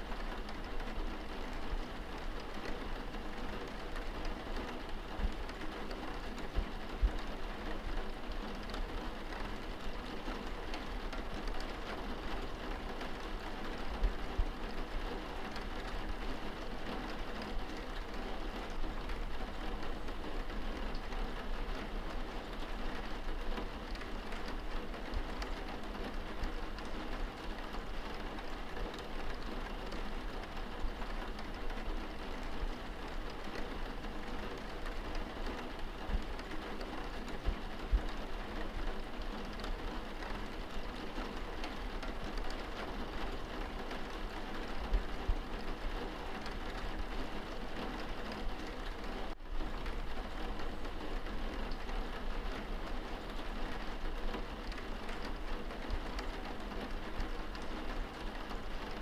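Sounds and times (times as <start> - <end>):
rain pattering on window glass: 0.0 - 59.0.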